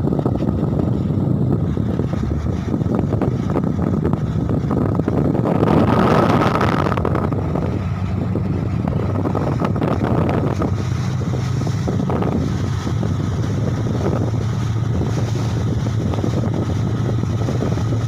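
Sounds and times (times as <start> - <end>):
rushing surge: 0.0 - 18.0
ship diesel engines humming: 0.0 - 18.0
wind buffeting microphone: 0.0 - 18.0.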